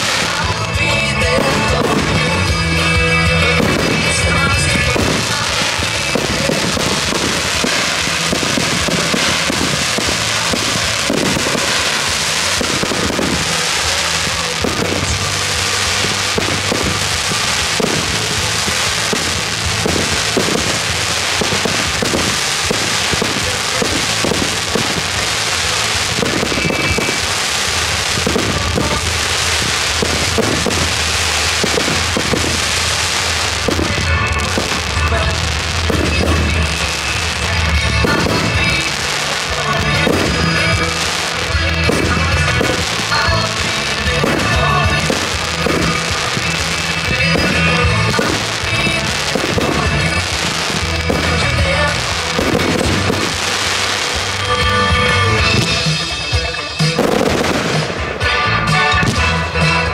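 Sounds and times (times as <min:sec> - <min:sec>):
fireworks bursts and bangs: 0:00.0 - 0:59.9
fireworks crackling: 0:00.0 - 0:59.9
music playing: 0:00.0 - 0:59.9.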